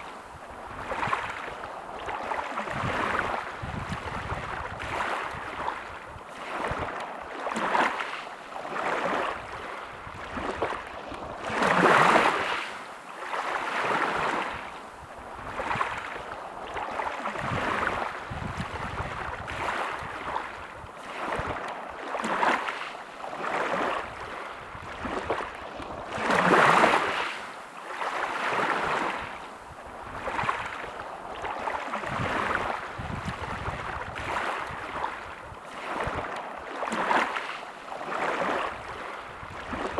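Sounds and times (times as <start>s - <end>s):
sea waves washing on shore: 0.0s - 39.9s
waves breaking: 0.0s - 39.9s.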